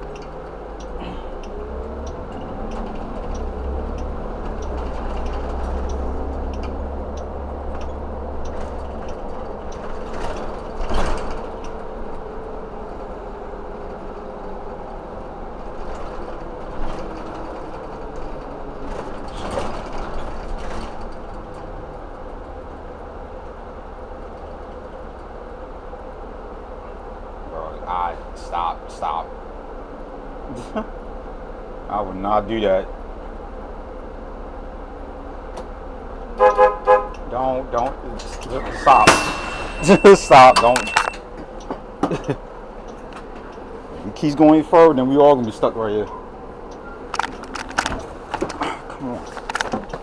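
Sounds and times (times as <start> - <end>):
road noise: 0.0 - 50.0
vehicle engine rumble: 0.0 - 50.0.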